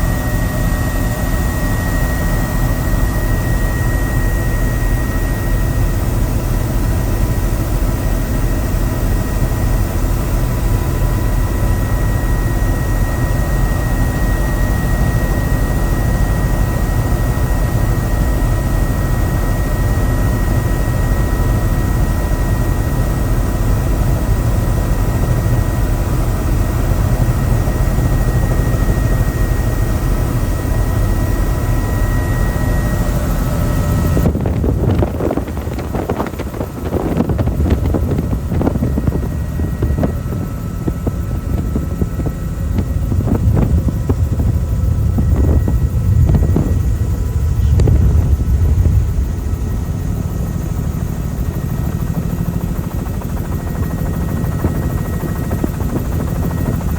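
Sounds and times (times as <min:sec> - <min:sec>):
helicopter rotor and engine: 0:00.0 - 0:56.9.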